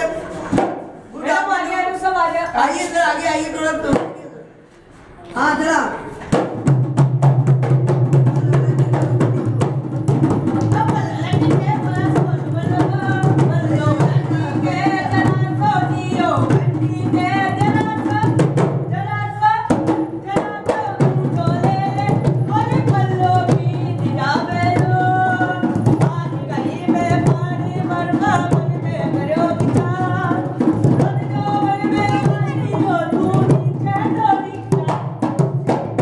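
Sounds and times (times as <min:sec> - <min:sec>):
steady drum beat: 0:06.3 - 0:36.0.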